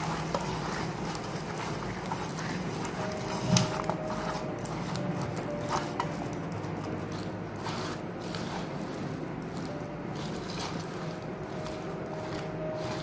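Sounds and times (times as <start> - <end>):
battered potatoes mixed in steel plate: 0.0 - 13.0.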